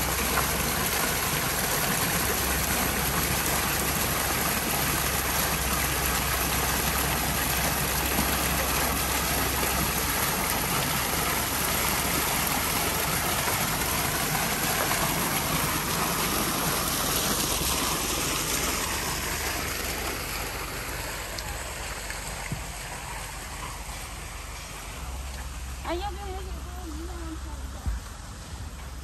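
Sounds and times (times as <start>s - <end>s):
fountain water splashing: 0.0s - 29.0s.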